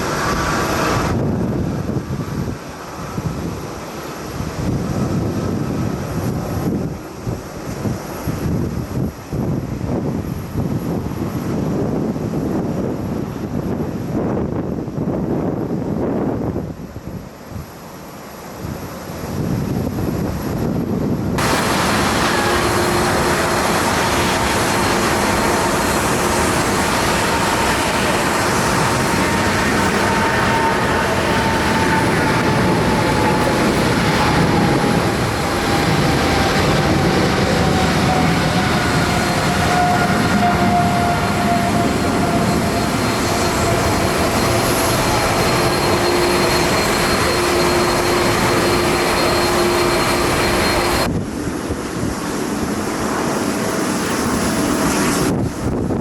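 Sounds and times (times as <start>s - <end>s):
jet airliner passing: 0.0s - 16.5s, 17.7s - 56.0s.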